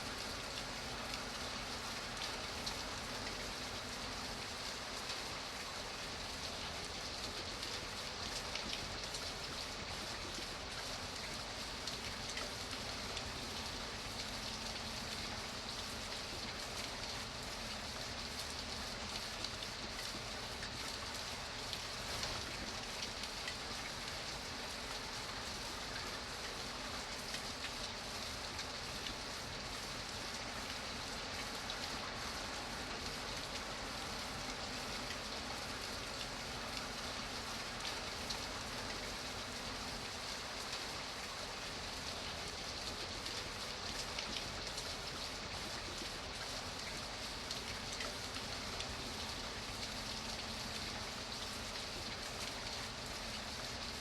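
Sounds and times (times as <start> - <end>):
steady rain: 0.0 - 54.0
raindrops ticking on a surface: 0.1 - 54.0.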